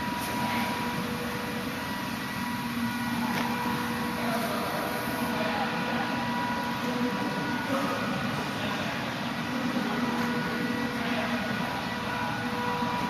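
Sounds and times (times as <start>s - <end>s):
factory machinery hum: 0.0s - 13.0s.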